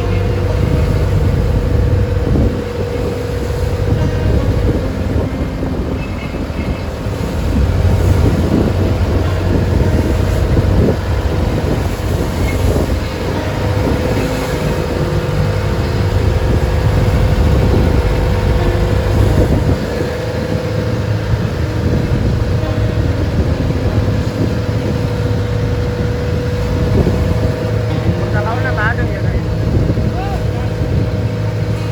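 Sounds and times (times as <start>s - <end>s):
boat engine running: 0.0s - 31.9s
wind buffeting microphone: 0.0s - 31.9s.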